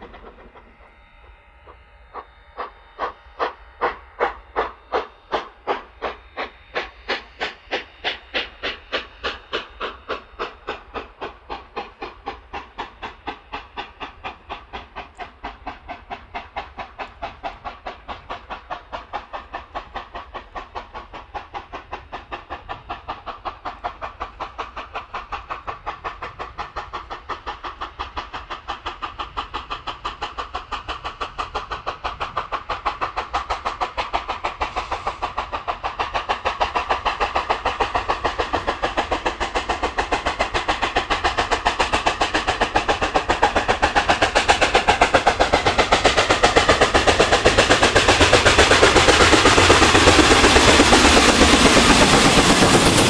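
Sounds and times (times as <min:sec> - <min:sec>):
steam locomotive chuffing: 0:00.0 - 0:53.0.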